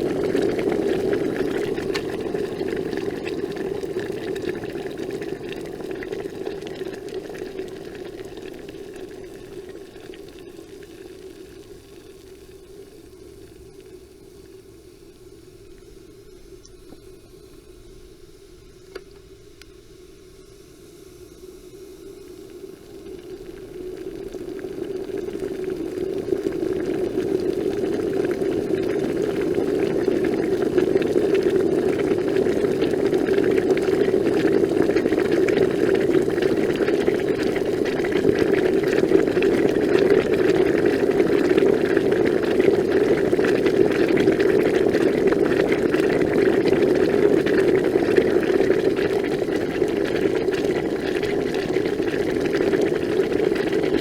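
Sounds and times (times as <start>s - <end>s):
water boiling and bubbling: 0.0s - 17.2s, 21.8s - 54.0s.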